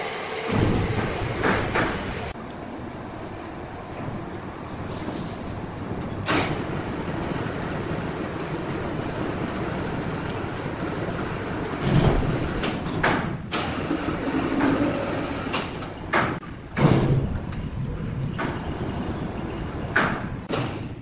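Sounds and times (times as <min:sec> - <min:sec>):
sawmill machinery rumbling: 0:00.0 - 0:21.0.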